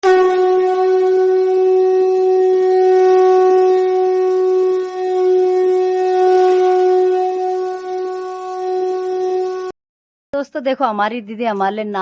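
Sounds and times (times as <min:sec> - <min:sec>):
conch shell blown: 0:00.0 - 0:09.8.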